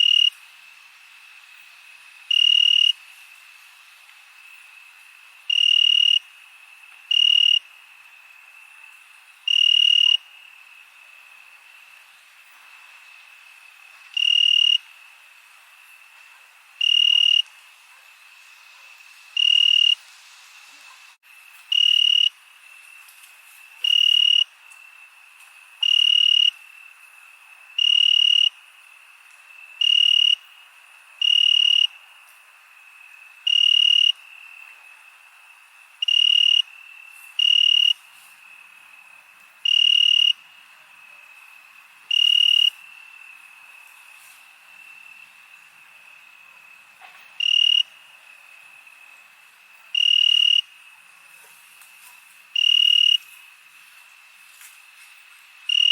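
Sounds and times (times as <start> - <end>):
cricket trilling in bursts: 0.0 - 55.9
faint high cricket trill: 0.0 - 55.9.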